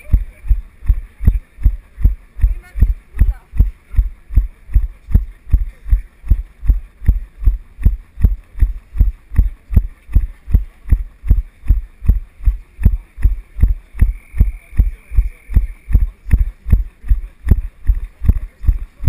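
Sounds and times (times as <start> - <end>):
running footfall thuds: 0.0 - 19.0.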